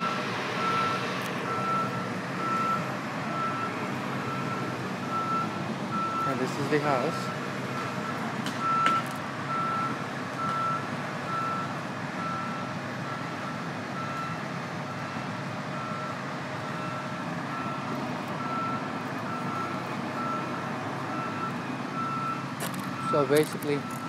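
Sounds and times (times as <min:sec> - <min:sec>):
reversing alarm beeping: 0:00.0 - 0:24.0
truck engine running: 0:00.0 - 0:24.0.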